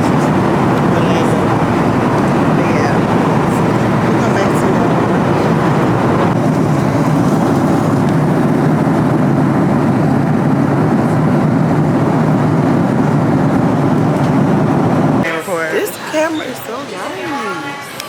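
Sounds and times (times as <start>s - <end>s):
airliner cabin engine noise: 0.0s - 17.4s.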